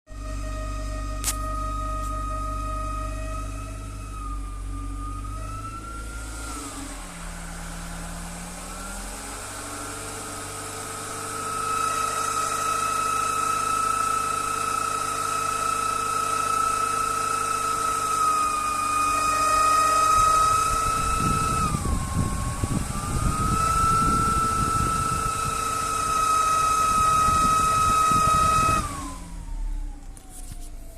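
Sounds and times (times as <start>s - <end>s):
engine belt whistling: 0.1s - 30.9s.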